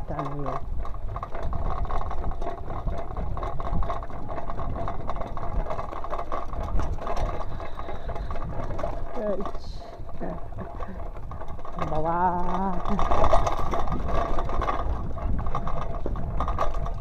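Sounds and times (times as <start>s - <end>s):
bike rattling over bumpy ground: 0.0s - 17.0s
wind buffeting microphone: 0.0s - 17.0s.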